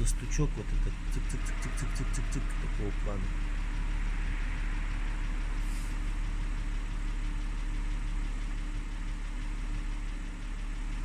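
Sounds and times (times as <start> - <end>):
car engine idling: 0.0 - 11.0
light repetitive engine ticking: 0.0 - 11.0.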